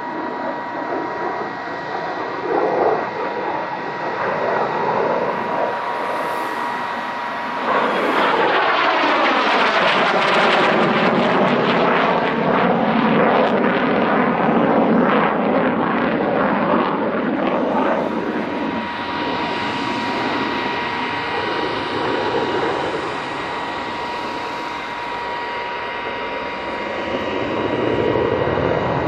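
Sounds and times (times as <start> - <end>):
jet engine roaring overhead: 0.0 - 29.0.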